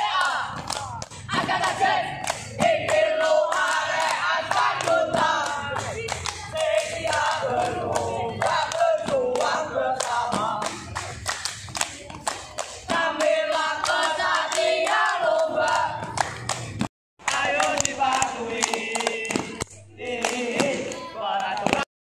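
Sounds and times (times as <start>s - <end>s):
boys chanting in unison: 0.0s - 16.1s, 17.2s - 21.9s
hand claps: 0.1s - 21.9s.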